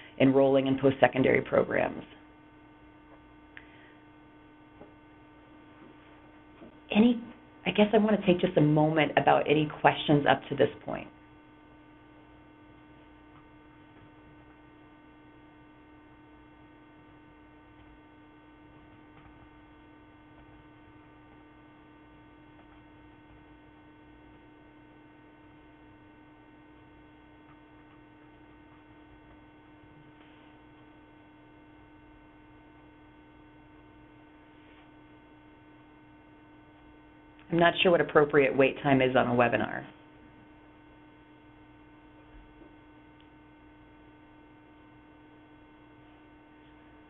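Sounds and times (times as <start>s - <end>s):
faint electrical hum: 0.0s - 47.0s.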